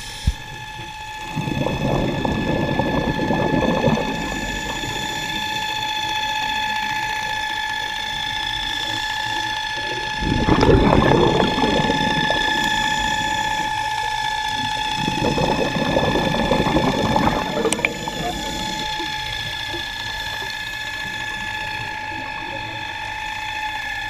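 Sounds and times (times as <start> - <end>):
steady high whine: 0.0 - 24.0
underwater exhaust bubbles: 0.0 - 24.0.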